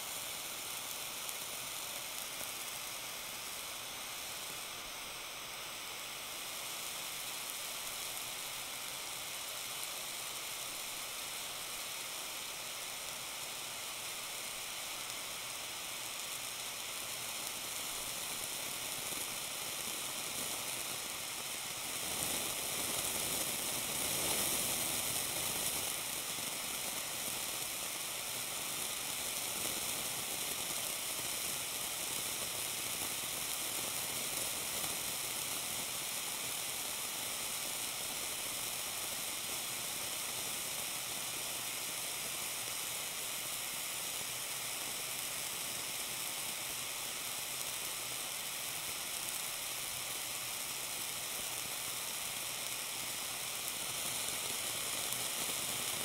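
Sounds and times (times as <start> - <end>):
blowtorch flame hissing: 0.0 - 56.0
cheese sizzling: 0.0 - 56.0.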